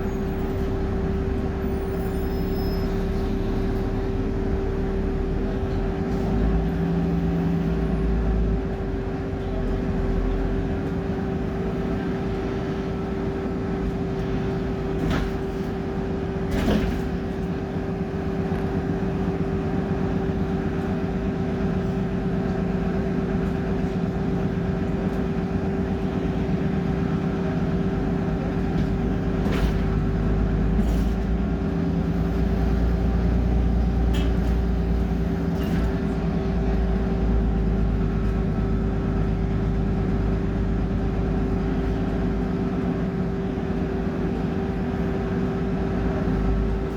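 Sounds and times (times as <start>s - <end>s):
bus diesel engine rumble: 0.0s - 46.9s.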